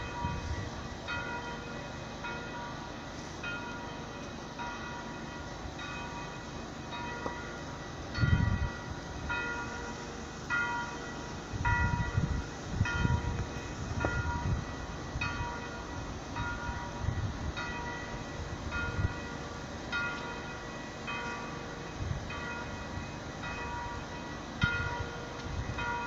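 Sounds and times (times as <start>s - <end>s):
railway warning bell ringing: 0.0s - 26.0s
train rumbling: 0.0s - 26.0s.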